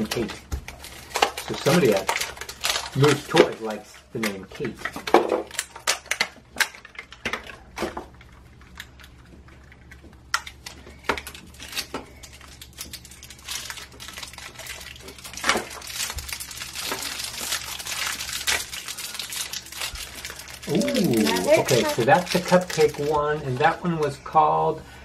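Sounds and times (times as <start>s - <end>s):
plastic wrappers crinkling: 0.0s - 24.3s.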